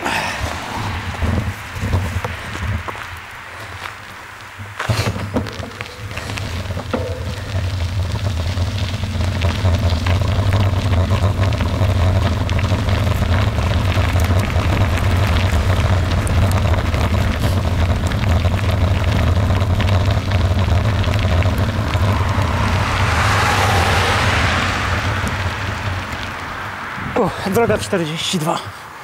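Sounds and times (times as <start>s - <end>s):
wind buffeting microphone: 0.0s - 28.0s
stones crackling: 0.0s - 28.6s
tyres rolling on gravel: 0.0s - 29.0s.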